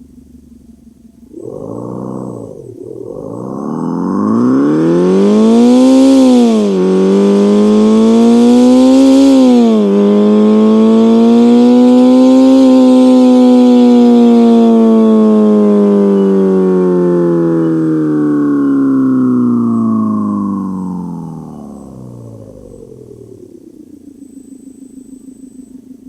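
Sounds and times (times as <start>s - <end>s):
synthetic engine sound accelerating: 0.0s - 26.0s.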